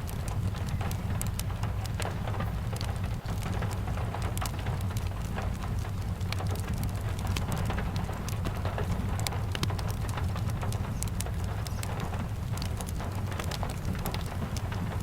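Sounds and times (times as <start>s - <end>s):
constant low rumble: 0.0s - 15.0s
steady rain: 0.0s - 15.0s
wood fire crackling: 0.0s - 15.0s.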